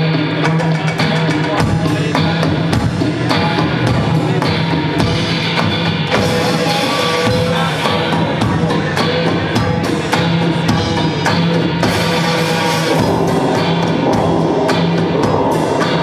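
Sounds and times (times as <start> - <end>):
electric guitar: 0.0 - 16.0
drum kit hits: 1.0 - 16.0.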